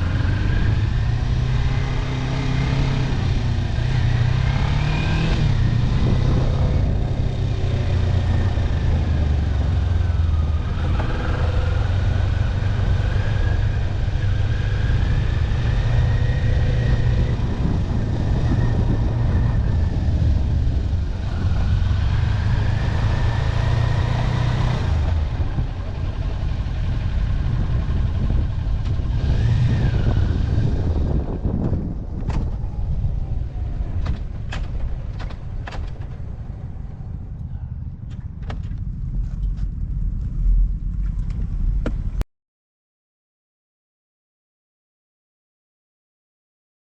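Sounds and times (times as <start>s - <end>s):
motorcycle engine rumbling: 0.0s - 42.2s.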